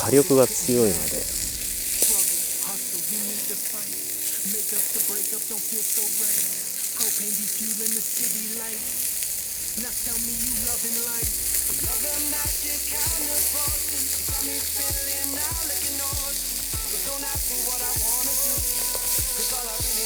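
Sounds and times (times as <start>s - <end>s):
chicken sizzling on griddle: 0.0s - 20.0s.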